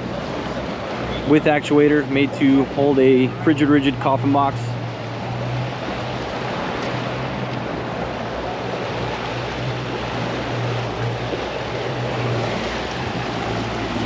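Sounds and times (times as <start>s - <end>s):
outboard motor humming: 0.0s - 14.0s
water rushing past hull: 0.0s - 14.0s
wind: 0.0s - 14.0s.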